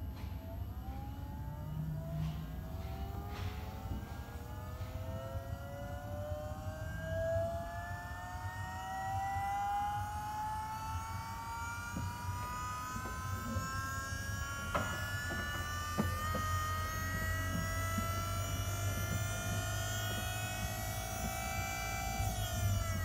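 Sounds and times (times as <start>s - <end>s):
low steady hum: 0.0s - 23.0s
power-steering pump whine: 0.0s - 23.0s.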